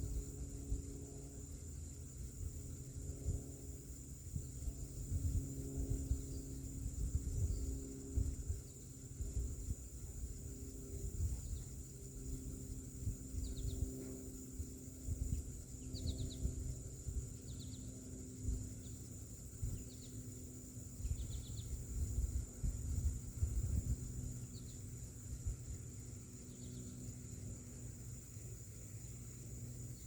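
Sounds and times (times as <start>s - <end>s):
wind rumble on microphone: 0.0s - 27.6s
ceiling fan humming: 0.0s - 30.0s.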